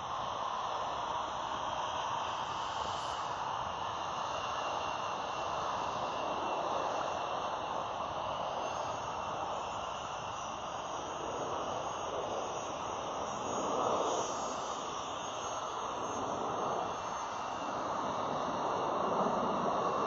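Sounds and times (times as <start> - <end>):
jet engine rushing: 2.2 - 20.0.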